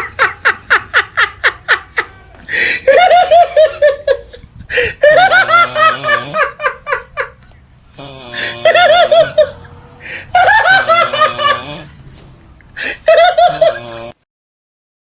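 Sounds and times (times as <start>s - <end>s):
high-pitched giggling: 0.0s - 7.6s, 8.3s - 12.0s, 12.8s - 14.2s.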